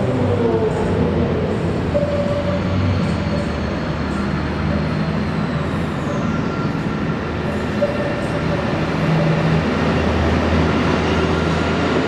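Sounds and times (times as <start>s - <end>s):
train-like rumbling over speakers: 0.0s - 12.0s.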